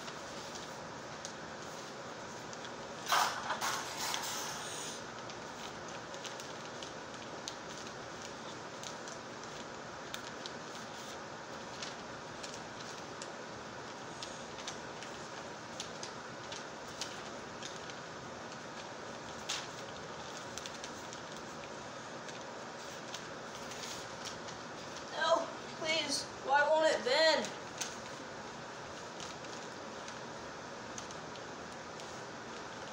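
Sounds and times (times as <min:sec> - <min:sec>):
paper crinkling and folding: 0:00.0 - 0:32.9.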